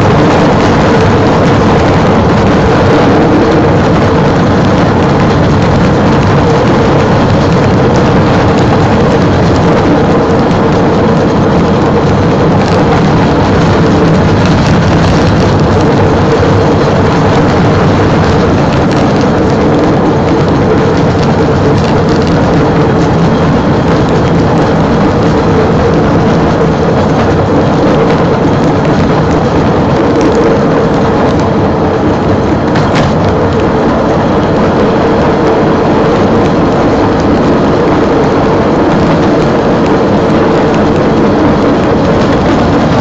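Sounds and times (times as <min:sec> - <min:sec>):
constant hum: 0:00.0 - 0:43.0
rail vehicle engine drone: 0:00.0 - 0:43.0
rail vehicle running on track: 0:00.0 - 0:43.0.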